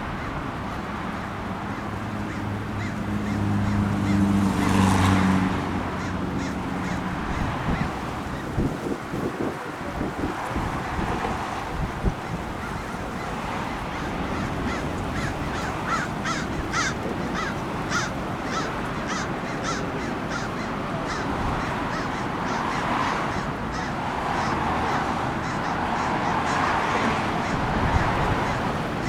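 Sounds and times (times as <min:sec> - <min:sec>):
wind: 0:00.0 - 0:29.0
crow cawing: 0:01.6 - 0:08.6, 0:12.2 - 0:29.0.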